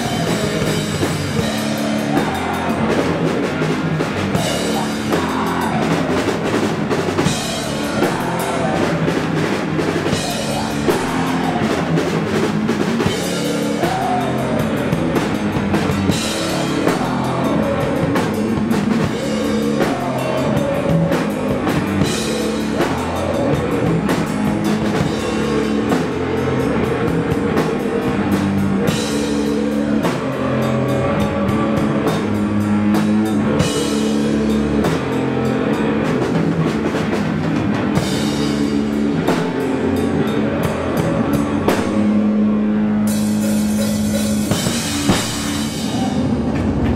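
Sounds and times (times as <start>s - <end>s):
live metal band playing: 0.0s - 46.9s.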